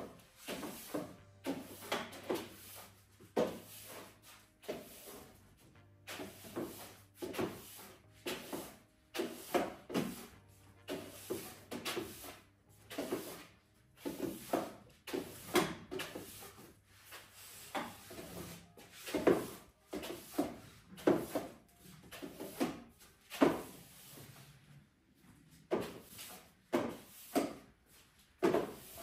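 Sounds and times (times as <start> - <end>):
broom swishing on wooden floor: 0.0 - 29.0.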